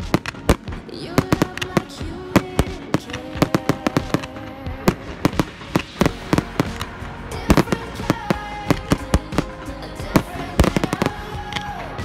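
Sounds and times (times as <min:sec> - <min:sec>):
firework shells bursting: 0:00.0 - 0:11.6.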